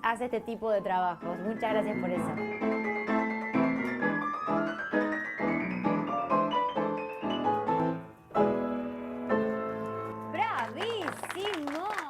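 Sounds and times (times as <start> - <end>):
player piano chords: 0.0 - 11.0.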